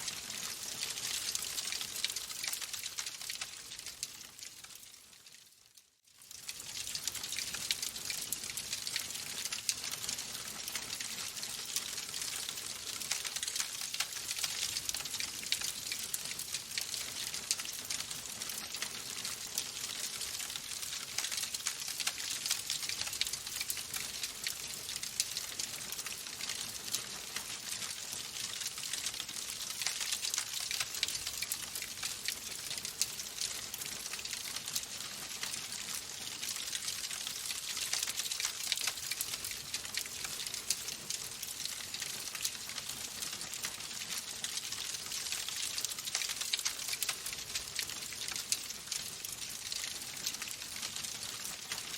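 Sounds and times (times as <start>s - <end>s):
wood fire crackling and popping: 0.0s - 5.4s, 6.2s - 51.9s.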